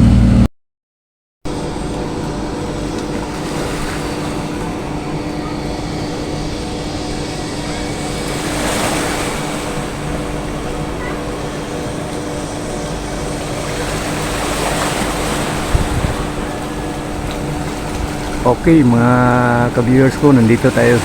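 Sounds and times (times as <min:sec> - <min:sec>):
machine hum: 0:00.0 - 0:00.5, 0:01.5 - 0:21.0
rushing outdoor noise: 0:01.5 - 0:21.0.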